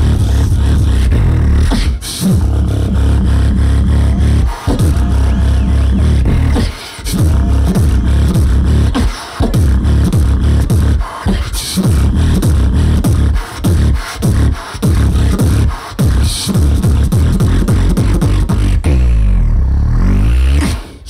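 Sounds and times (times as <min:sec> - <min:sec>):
beatboxing through a microphone: 0:00.0 - 0:21.0.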